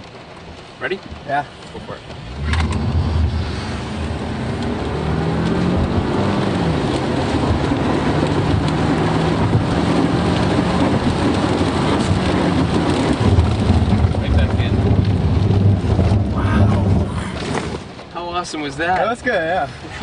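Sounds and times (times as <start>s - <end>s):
heavy rain: 0.0s - 20.0s
car engine accelerating: 1.9s - 18.1s.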